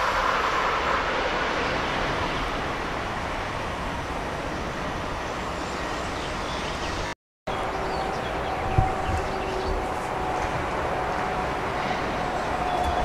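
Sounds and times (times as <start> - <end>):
high-speed train rolling rush: 0.0 - 13.0.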